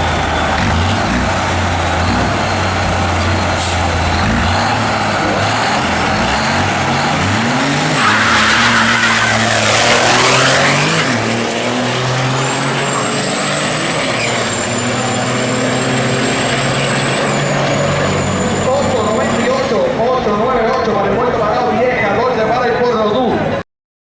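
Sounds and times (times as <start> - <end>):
diesel truck engines revving: 0.0 - 23.6
trucks rushing past: 0.0 - 23.6.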